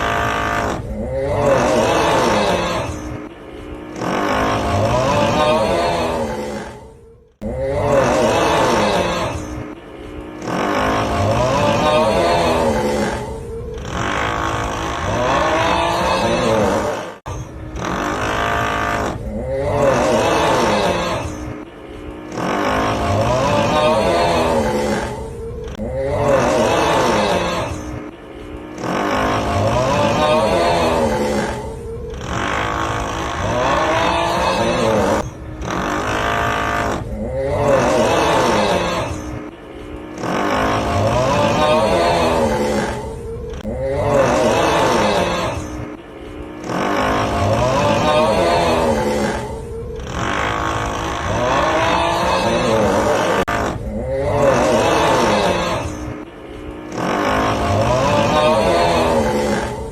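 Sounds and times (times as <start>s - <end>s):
drilling noise: 0.0s - 6.8s, 7.7s - 59.9s
snoring groan: 0.0s - 59.9s.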